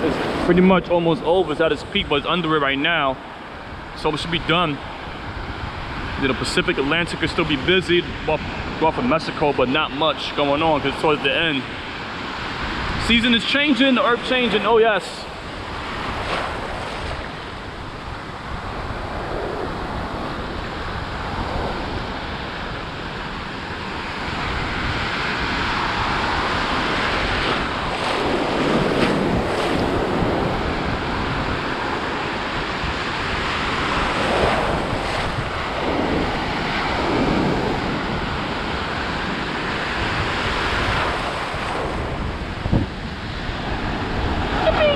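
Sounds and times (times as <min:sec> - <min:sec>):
ocean surf breaking: 0:00.0 - 0:44.9
wind buffeting microphone: 0:00.0 - 0:44.9.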